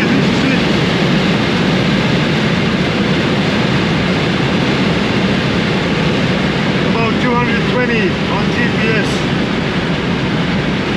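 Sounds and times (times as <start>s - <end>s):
car engine at high revs: 0.0s - 10.9s
wind and road noise in car: 0.0s - 10.9s.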